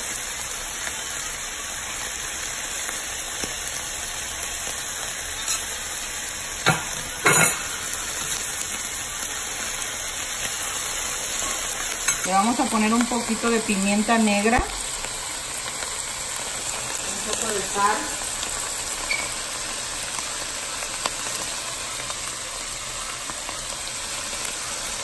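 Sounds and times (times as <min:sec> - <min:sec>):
liver frying in a pan: 0:00.0 - 0:25.0.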